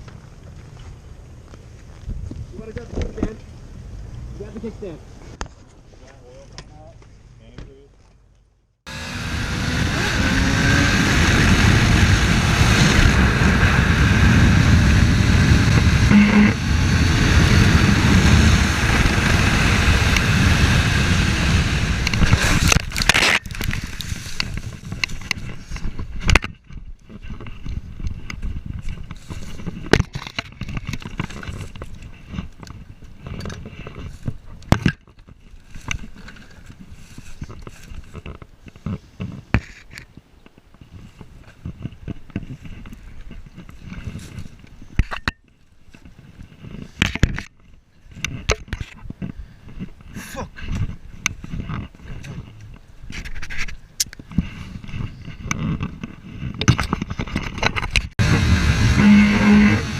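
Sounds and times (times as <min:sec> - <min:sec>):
motorcycle engine and wind roar: 0:00.0 - 0:05.4, 0:08.9 - 0:59.9.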